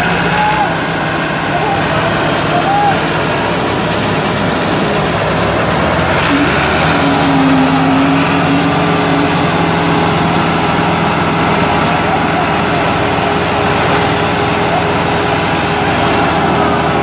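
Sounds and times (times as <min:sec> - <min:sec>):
diesel tractor engines under load: 0:00.0 - 0:17.0
steady droning note: 0:00.0 - 0:17.0.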